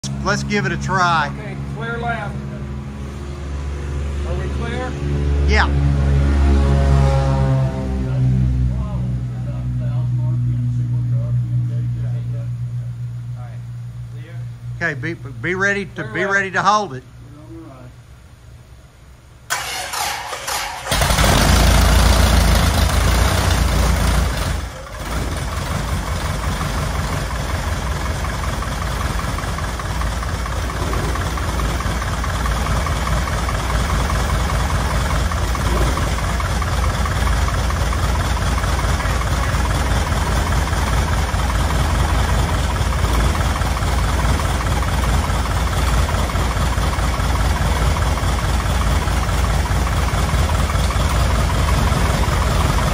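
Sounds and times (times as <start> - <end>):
aircraft engine starting and running: 0.0 - 16.0, 19.5 - 52.9.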